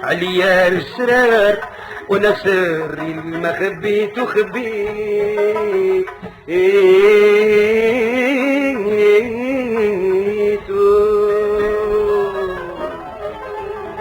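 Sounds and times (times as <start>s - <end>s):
music accompaniment: 0.0s - 14.0s.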